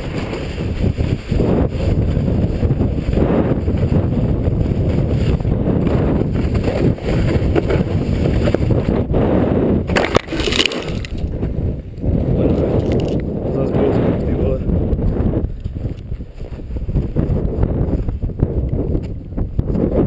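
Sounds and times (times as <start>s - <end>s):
board running over snow: 0.0s - 20.0s
wind buffeting microphone: 0.0s - 20.0s.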